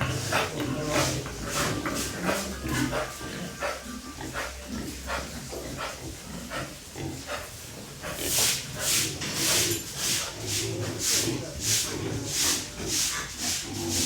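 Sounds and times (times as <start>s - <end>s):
pigs grunting: 0.0s - 14.0s.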